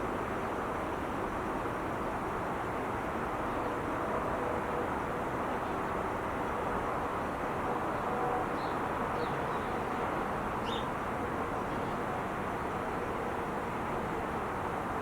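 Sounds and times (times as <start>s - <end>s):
freeway traffic roar: 0.0s - 15.0s.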